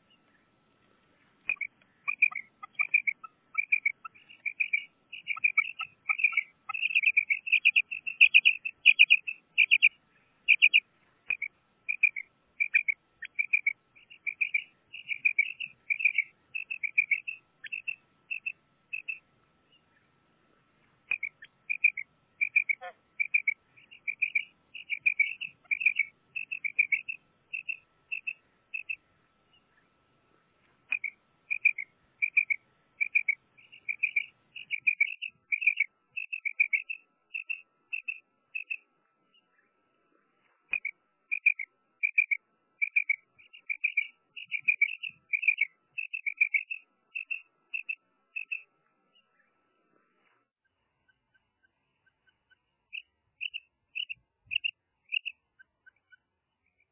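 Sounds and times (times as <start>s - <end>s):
quail chirping: 1.4s - 20.1s, 21.0s - 29.9s, 30.8s - 39.7s, 40.7s - 49.5s, 51.0s - 56.9s.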